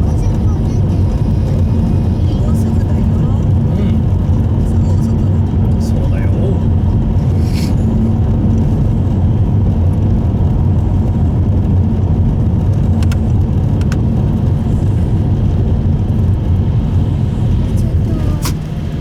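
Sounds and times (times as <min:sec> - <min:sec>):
car engine and tyre drone: 0:00.0 - 0:19.0.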